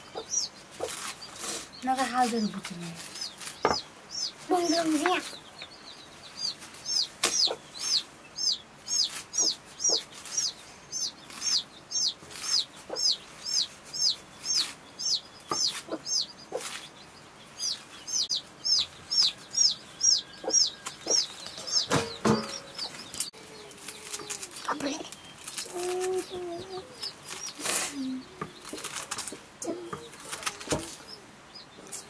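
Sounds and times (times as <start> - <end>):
small bird chirping: 0.0 - 32.0.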